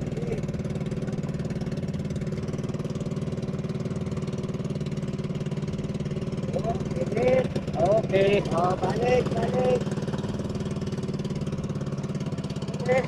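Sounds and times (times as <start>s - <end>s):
small boat engine running: 0.0s - 13.0s.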